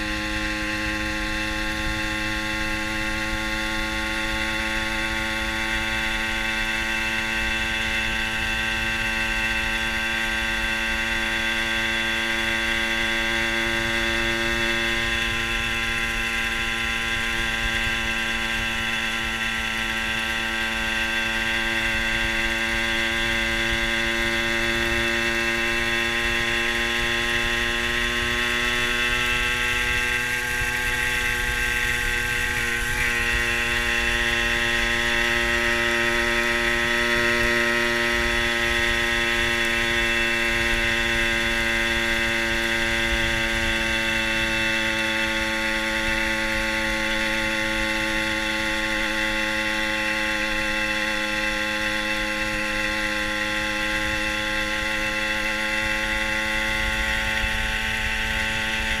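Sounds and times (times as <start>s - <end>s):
low wind rumble: 0.0s - 49.0s
moped engine running: 0.0s - 59.0s.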